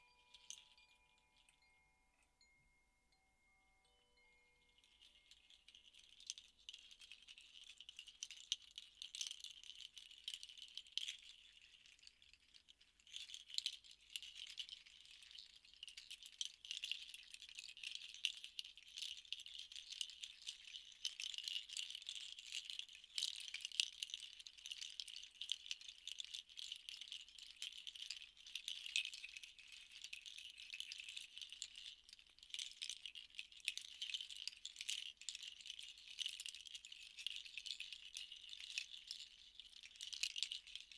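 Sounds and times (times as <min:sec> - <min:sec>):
hand rattles shaken: 0:00.0 - 0:00.9, 0:04.7 - 0:40.9.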